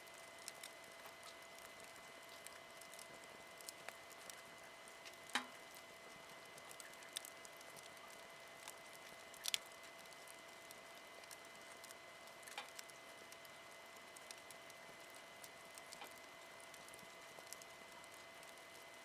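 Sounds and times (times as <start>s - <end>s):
campfire crackling: 0.1s - 19.0s.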